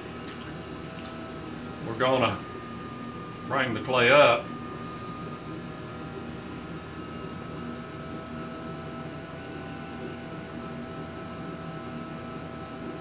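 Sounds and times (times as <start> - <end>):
potter's wheel humming: 0.0 - 13.0.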